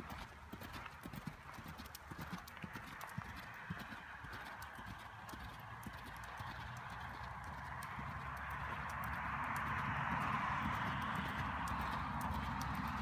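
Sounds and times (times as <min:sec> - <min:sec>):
horse hoofbeats on sand and gravel: 0:00.0 - 0:13.0.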